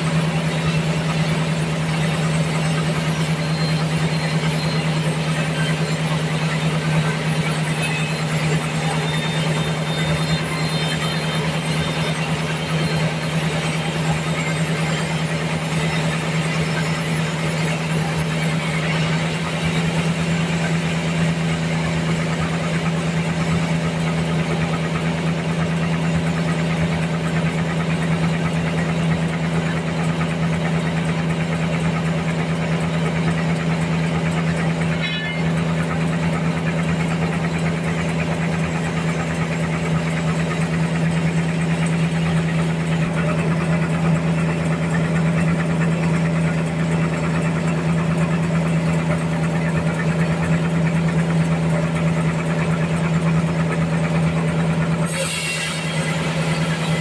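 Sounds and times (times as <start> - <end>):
saw blade cutting log: 0.0 - 57.0
sawmill machine hum: 0.0 - 57.0.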